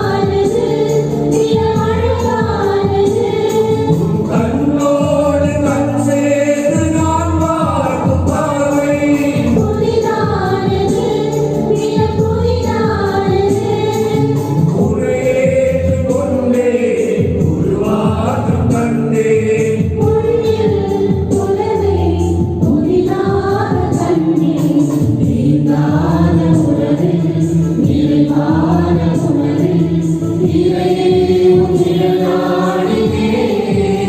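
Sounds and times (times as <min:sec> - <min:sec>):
choir singing a hymn: 0:00.0 - 0:34.0.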